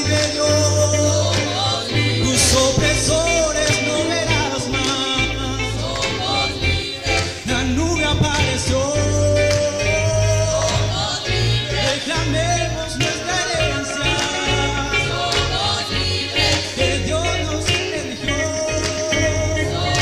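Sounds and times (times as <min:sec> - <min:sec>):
band playing upbeat song: 0:00.0 - 0:20.0
lead voice singing: 0:00.0 - 0:20.0
steady bass line: 0:00.0 - 0:20.0.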